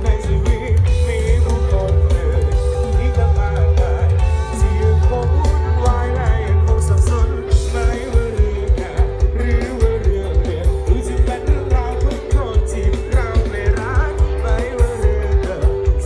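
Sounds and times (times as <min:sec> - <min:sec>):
live rock band through pa: 0:00.0 - 0:16.0.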